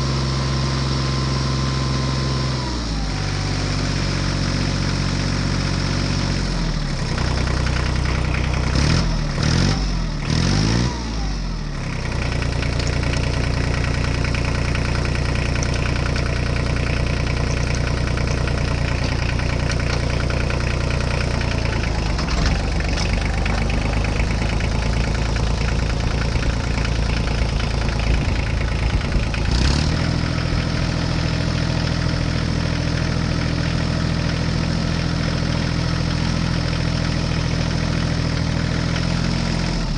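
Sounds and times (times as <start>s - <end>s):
tractor engine idling and revving: 0.0s - 39.9s.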